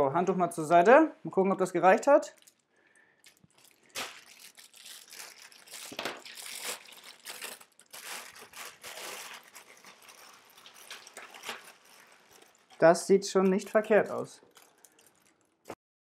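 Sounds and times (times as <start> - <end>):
plastic bag crinkling: 2.2 - 15.8.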